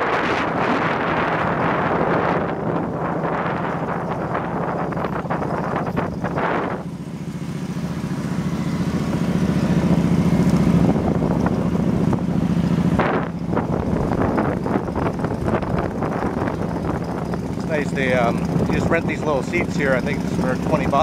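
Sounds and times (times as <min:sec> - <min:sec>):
motorbike engine running: 0:00.0 - 0:21.0
wind buffeting microphone: 0:00.0 - 0:21.0.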